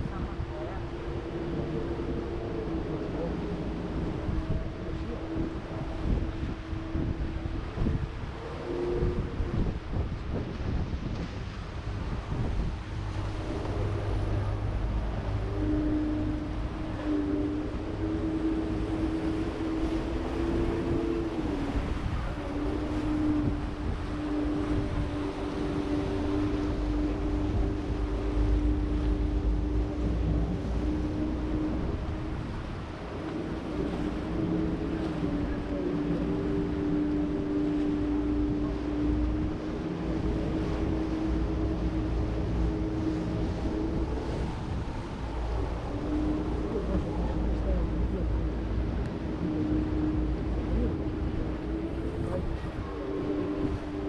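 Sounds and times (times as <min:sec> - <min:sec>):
boat engine rumbling: 0:00.0 - 0:54.0
wind on microphone: 0:00.0 - 0:54.0.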